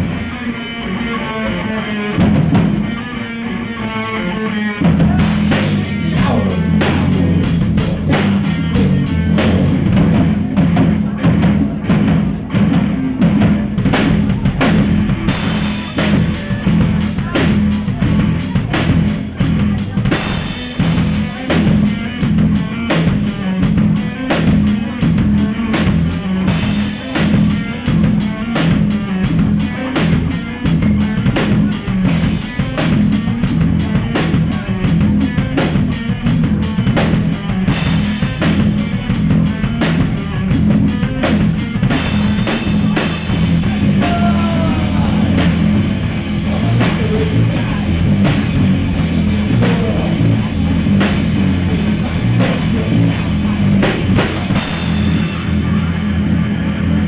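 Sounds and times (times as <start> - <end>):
distorted electric guitar riff: 0.0 - 57.0
fast drumbeat: 4.8 - 55.7.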